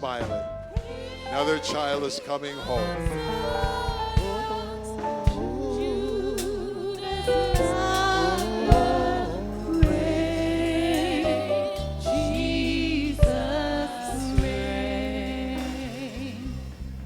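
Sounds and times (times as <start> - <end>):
bass: 0.0 - 17.0
gospel singing: 0.0 - 17.0
drum hits: 2.7 - 17.0
sustained keyboard chords: 2.7 - 17.0.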